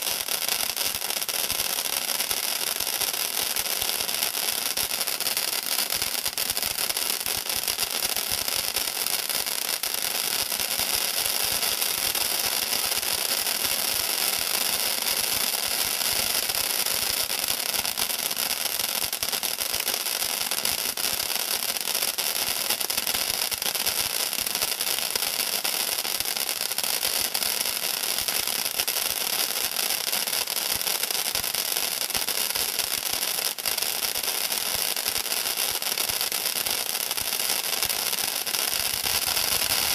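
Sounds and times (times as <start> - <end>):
firework fountain hissing and crackling: 0.0 - 39.9.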